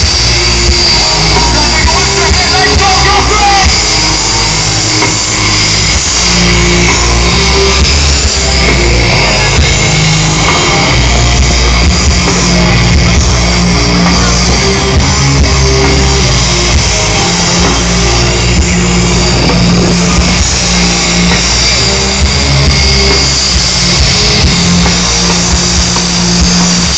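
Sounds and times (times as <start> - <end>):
loud rock music: 0.0 - 26.9.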